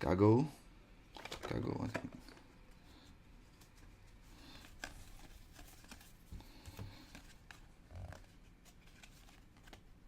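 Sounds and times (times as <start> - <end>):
cards rustling: 1.1 - 10.0.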